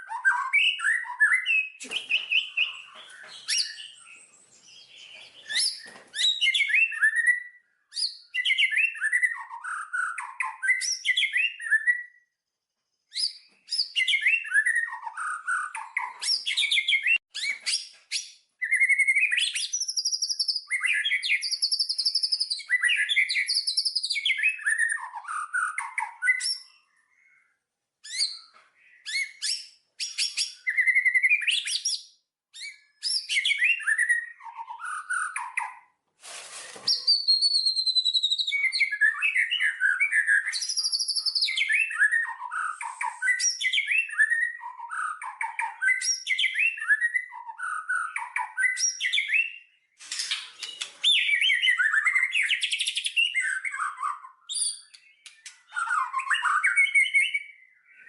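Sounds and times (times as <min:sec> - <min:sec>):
songbirds singing: 0:00.0 - 0:36.0, 0:36.7 - 0:58.0.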